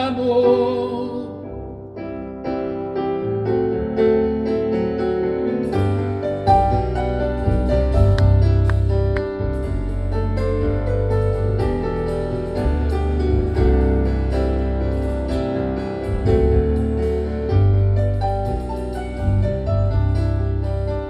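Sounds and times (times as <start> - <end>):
piano-toned keyboard: 0.0 - 21.0
live band playing a ballad: 2.2 - 21.0.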